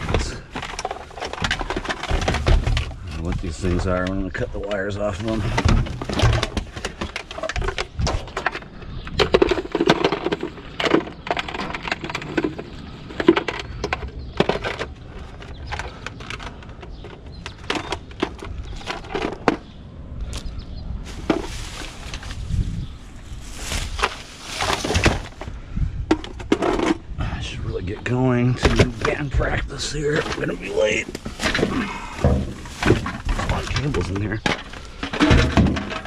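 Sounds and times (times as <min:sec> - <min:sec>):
scrap items clattering: 0:00.0 - 0:19.8, 0:21.0 - 0:27.0, 0:28.0 - 0:36.0.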